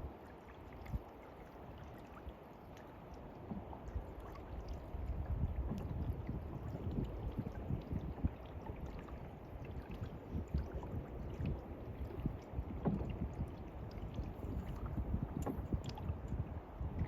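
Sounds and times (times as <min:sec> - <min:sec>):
knocks and drips against hull: 0:00.0 - 0:17.0
paddle splashing in water: 0:00.0 - 0:17.0
wind rumble on microphone: 0:00.0 - 0:17.0.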